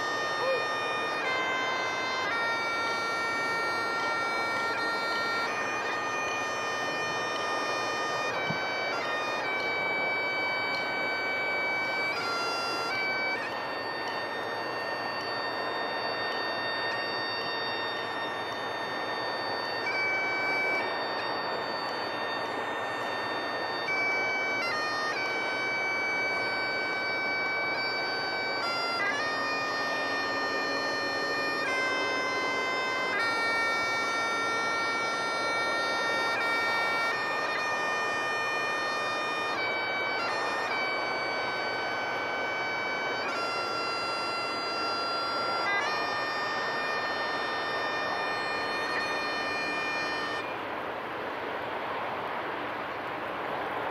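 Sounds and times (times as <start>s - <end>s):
bagpipes playing slow tune: 0.0s - 51.3s.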